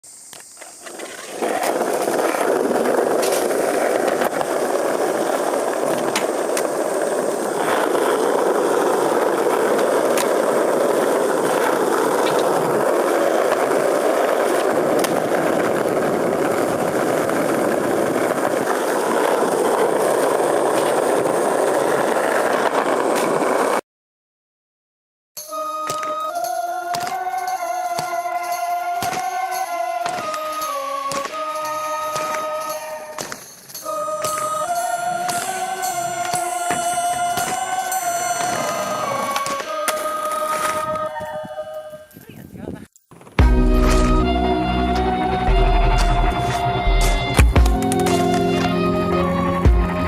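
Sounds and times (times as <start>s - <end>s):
skateboard wheels rolling on pavement: 0.1s - 23.8s, 25.4s - 42.2s, 43.1s - 50.0s.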